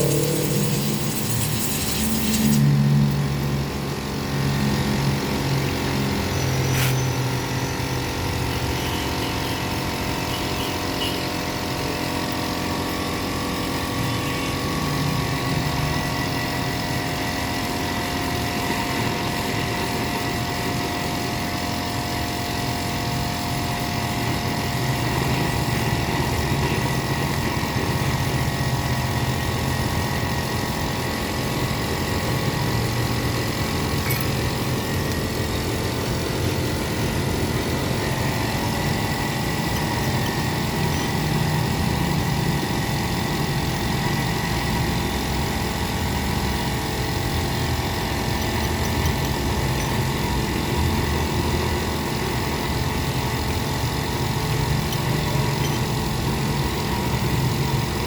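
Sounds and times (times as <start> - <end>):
motor humming: 0.0 - 6.4, 8.2 - 58.0.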